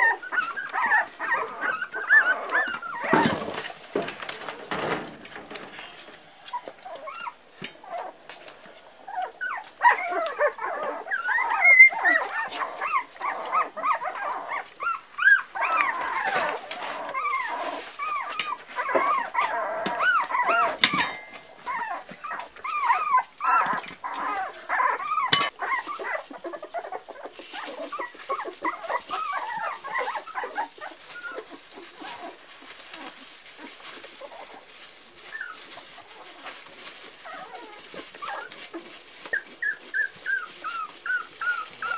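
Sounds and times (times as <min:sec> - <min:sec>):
puppies whining: 0:00.0 - 0:41.9.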